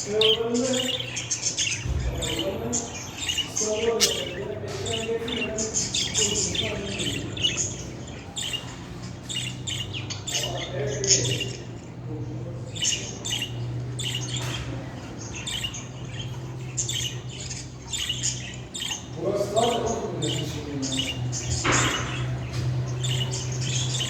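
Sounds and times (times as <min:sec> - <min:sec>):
budgerigar chattering: 0:00.0 - 0:24.0.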